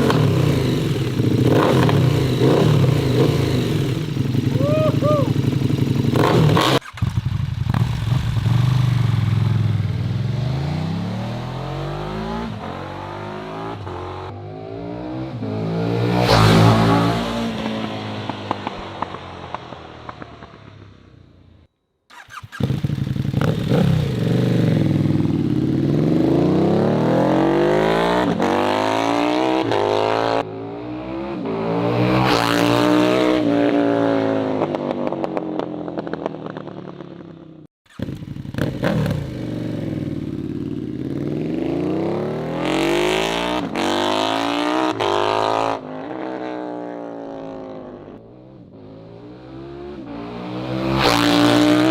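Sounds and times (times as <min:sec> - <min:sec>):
motorcycle revving past: 0:00.0 - 0:21.5, 0:22.1 - 0:51.9.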